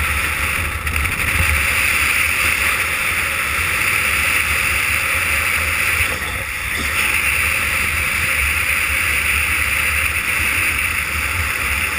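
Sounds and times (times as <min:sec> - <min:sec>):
rolling road noise: 0:00.0 - 0:11.9.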